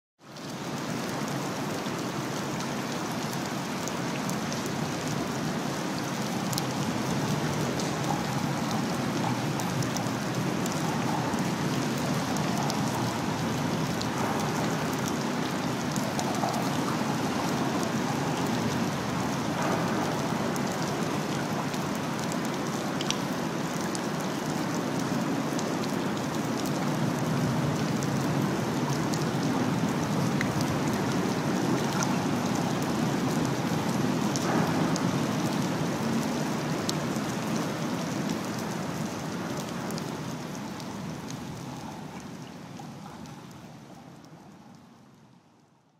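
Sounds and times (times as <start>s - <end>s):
river water rushing: 0.5s - 44.2s.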